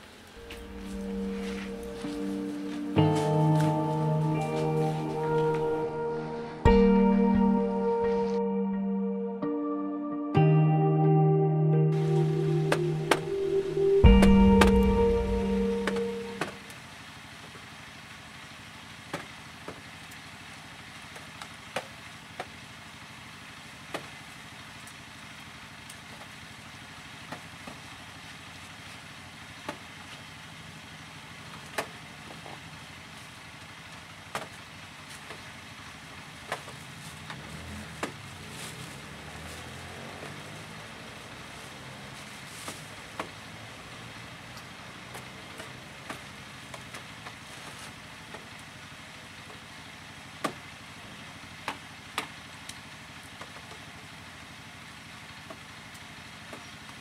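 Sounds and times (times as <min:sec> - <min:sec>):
faint outdoor hiss: 0:00.0 - 0:57.0.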